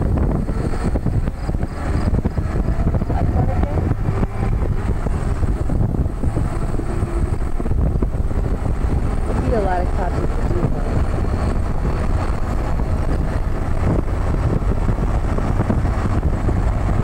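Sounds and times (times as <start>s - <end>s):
vehicle rumble: 0.0s - 17.0s
wind on microphone: 0.0s - 17.0s.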